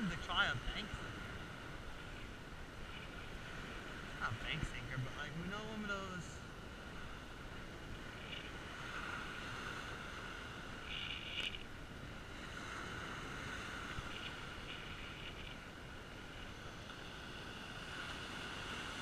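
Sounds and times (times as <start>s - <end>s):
surf breaking on a beach: 0.0s - 19.0s.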